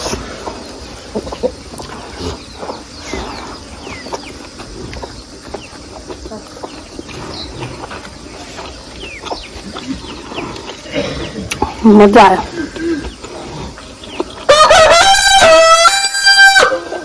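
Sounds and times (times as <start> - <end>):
chewing food: 0.0 - 14.5
chickens clucking: 0.0 - 17.0.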